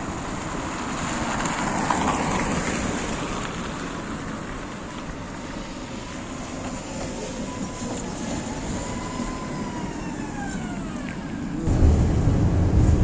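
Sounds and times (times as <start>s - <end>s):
tram rumbling along rails: 0.0s - 13.0s.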